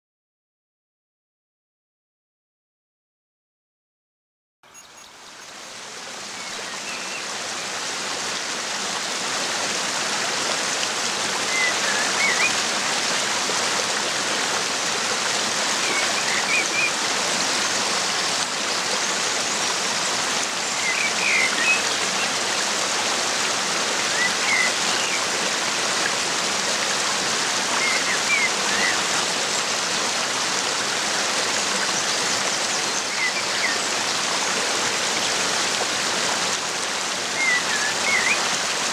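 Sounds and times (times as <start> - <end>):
floodwater rushing: 5.2 - 38.9.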